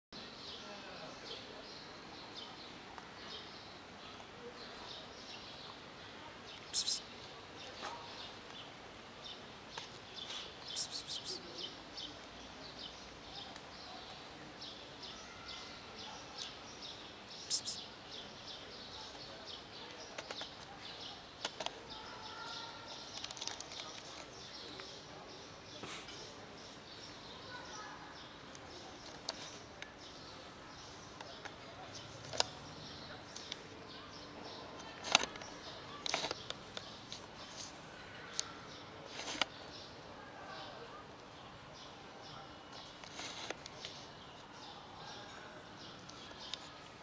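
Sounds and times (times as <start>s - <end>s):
small birds chirping: 0.2s - 47.0s
urban background noise: 0.2s - 47.0s.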